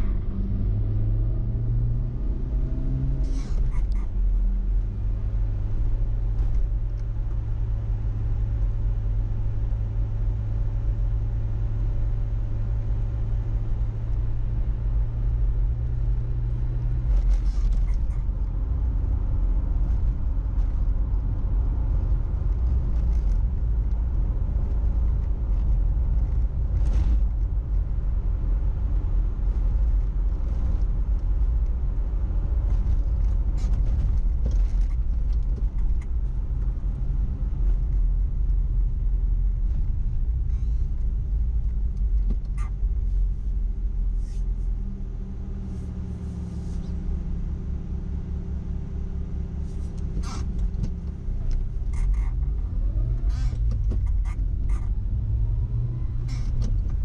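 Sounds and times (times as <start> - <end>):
car engine: 0.0 - 57.0
low engine hum: 0.0 - 57.0
road rumble: 0.0 - 57.0.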